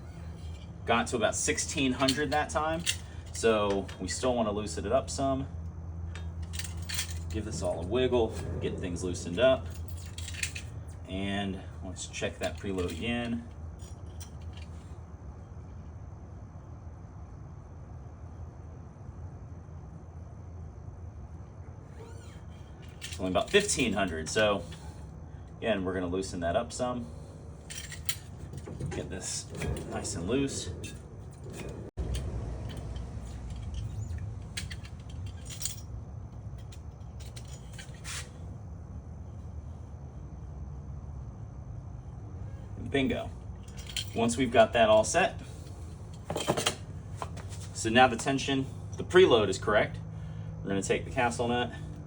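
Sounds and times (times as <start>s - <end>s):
low background rumble: 0.0s - 52.0s
steady low hum: 0.0s - 52.0s.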